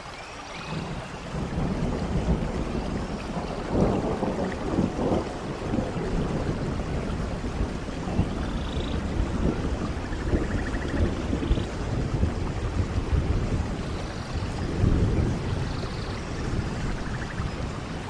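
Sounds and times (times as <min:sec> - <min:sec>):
heavy rain: 0:00.0 - 0:18.0
low rumbling thunder: 0:00.7 - 0:18.0.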